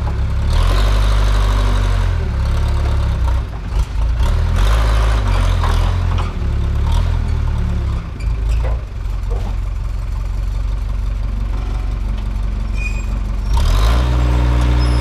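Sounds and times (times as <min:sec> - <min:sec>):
diesel engine rumbling under load: 0:00.0 - 0:15.0.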